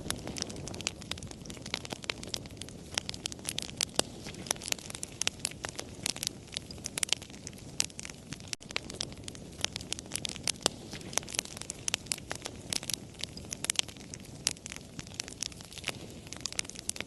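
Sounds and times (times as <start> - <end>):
campfire crackling and popping: 0.0 - 17.0
low rush of burning: 0.0 - 17.0.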